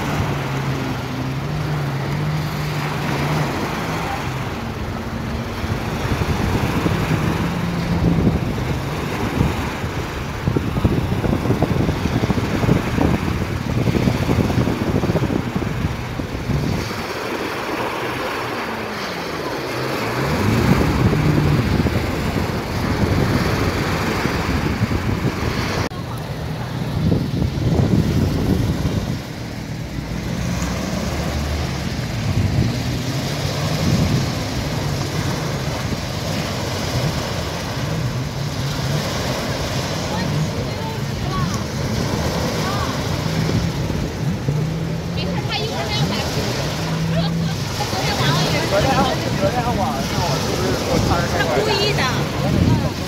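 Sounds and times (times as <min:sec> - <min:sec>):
jet ski engines running: 0:00.0 - 0:53.0
wind buffeting microphone: 0:00.0 - 0:53.0.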